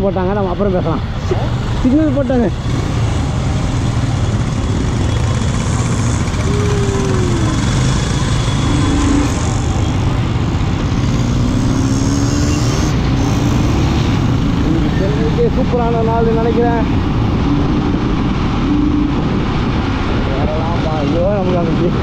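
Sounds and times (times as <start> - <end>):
motorcycle engines running: 0.0 - 22.0.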